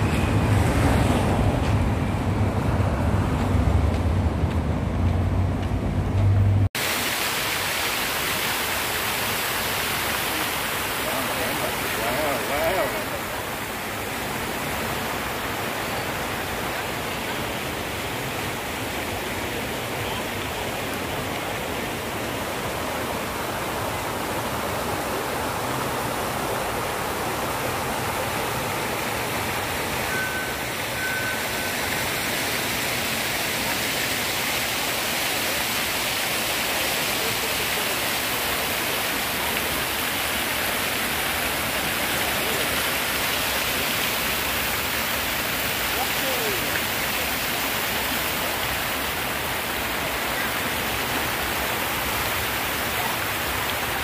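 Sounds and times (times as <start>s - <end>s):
fountain water splashing: 6.8s - 54.0s.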